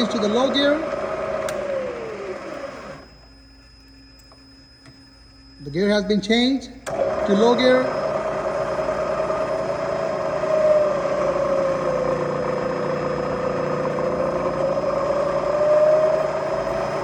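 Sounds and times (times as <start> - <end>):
mill spindle motor whine: 0.0 - 17.0.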